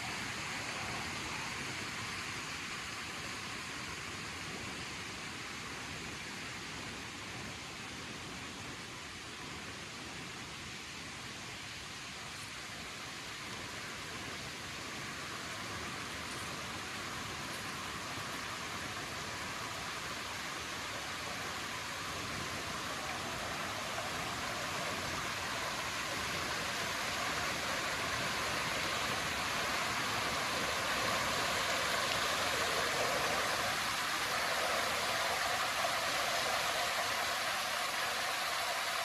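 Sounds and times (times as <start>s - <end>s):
running water: 0.0s - 39.0s.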